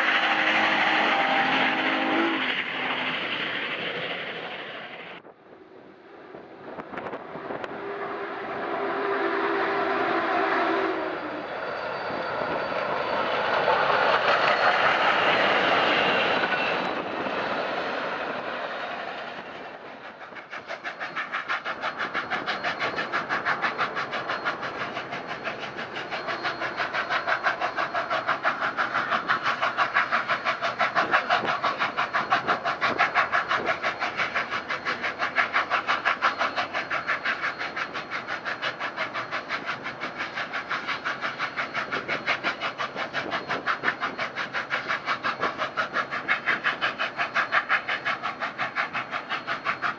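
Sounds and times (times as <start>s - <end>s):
steam locomotive exhaust chuffs: 0.0s - 49.9s.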